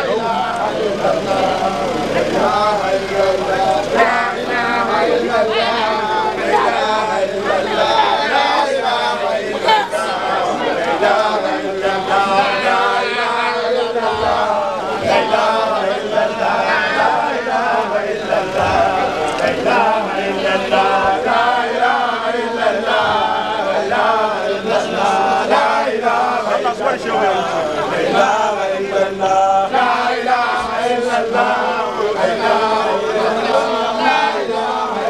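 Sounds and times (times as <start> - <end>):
group of voices chanting: 0.0 - 35.0.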